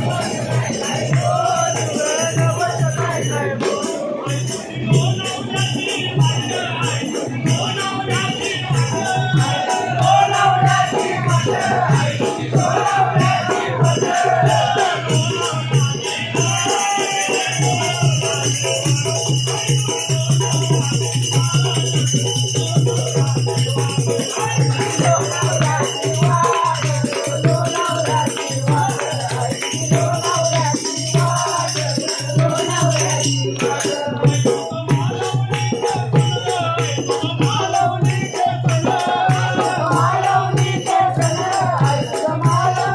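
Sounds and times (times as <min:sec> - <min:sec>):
rattling percussion beat: 0:00.0 - 0:42.9.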